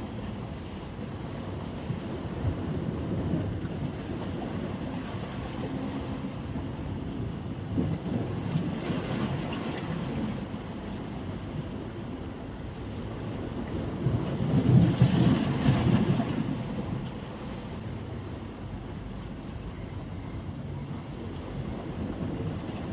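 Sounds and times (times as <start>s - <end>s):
waves washing onto beach: 0.0s - 22.9s
wind rumbling on microphone: 0.0s - 22.9s.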